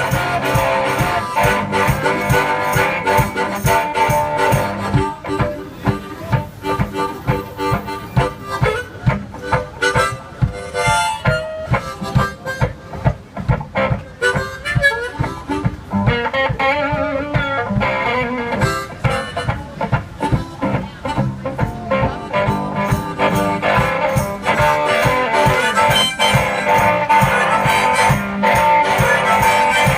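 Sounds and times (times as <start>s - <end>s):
foot tambourine beat: 0.0s - 16.0s, 18.6s - 29.9s
guitar: 0.0s - 29.9s
harmonica solo: 0.0s - 29.9s.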